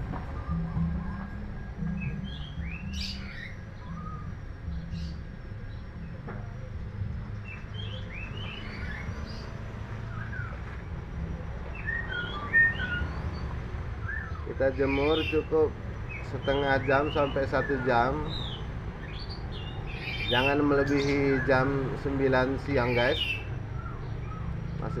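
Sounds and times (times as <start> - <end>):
bird chirping calls: 0.1 - 25.0.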